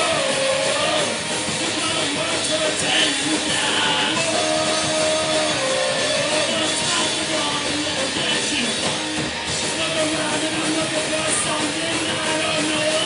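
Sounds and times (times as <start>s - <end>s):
distorted electric guitars: 0.0s - 13.0s
drum kit: 0.0s - 13.0s.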